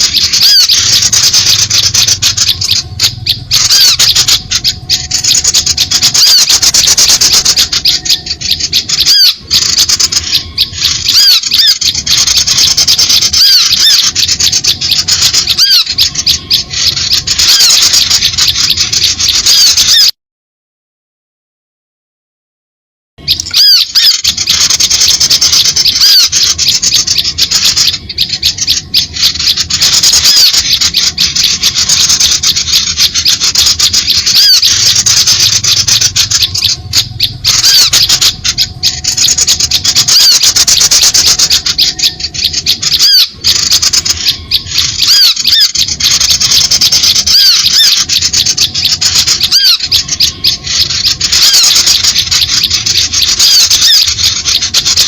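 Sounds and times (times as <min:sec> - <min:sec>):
songbirds chattering and chirping: 0:00.0 - 0:20.1, 0:23.2 - 0:55.0.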